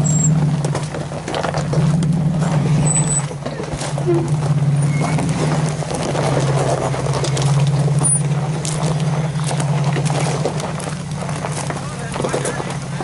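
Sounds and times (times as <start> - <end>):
gravel crunching under tyres: 0.0 - 13.0
off-road vehicle engine running: 0.0 - 13.0.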